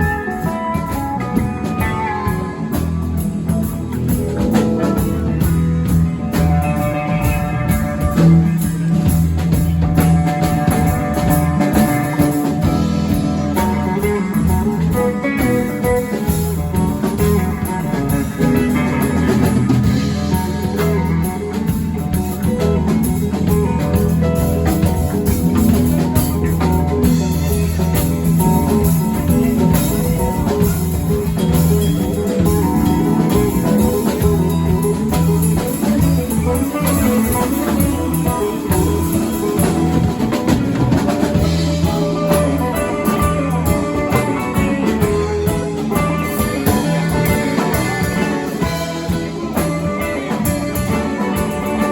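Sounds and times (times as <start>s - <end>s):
drum kit: 0.0s - 51.9s
guitar: 0.0s - 51.9s.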